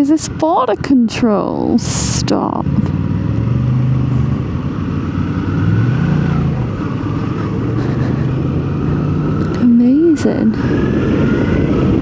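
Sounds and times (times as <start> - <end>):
motorcycle engine riding: 0.0 - 12.0.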